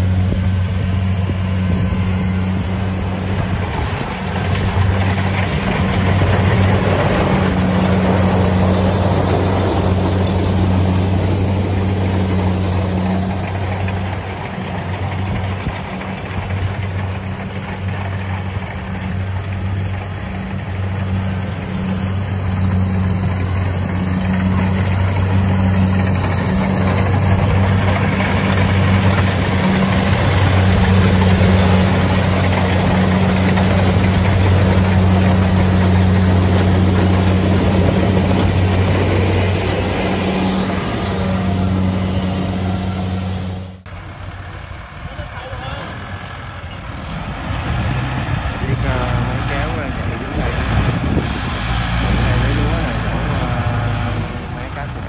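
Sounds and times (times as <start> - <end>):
combine harvester engine hum: 0.0 - 55.0
threshing machinery noise: 0.0 - 55.0.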